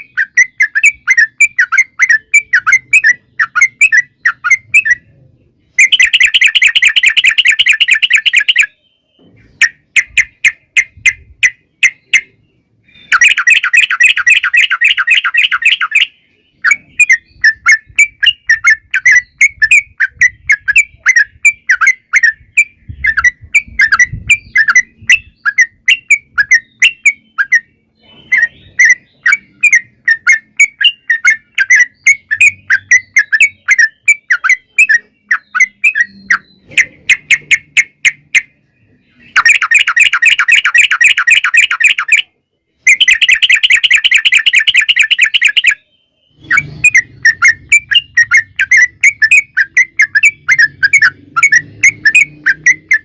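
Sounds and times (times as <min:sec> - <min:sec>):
bird chirping: 0:00.0 - 0:53.0
bird trills: 0:00.0 - 0:53.0.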